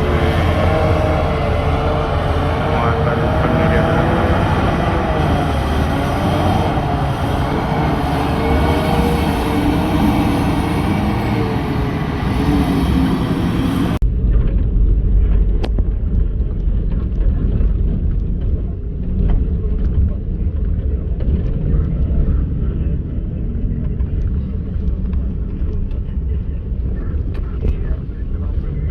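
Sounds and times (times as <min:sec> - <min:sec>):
deep rumble: 0:00.0 - 0:28.9
heavy machinery engine running: 0:00.0 - 0:28.9.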